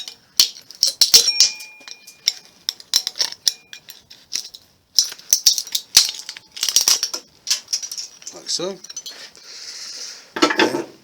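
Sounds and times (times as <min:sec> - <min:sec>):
plastic rattling on metal: 0:00.0 - 0:09.1.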